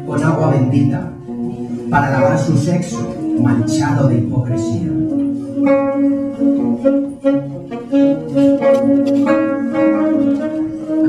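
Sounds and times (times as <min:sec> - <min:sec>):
saxophone melody: 0:00.0 - 0:11.0.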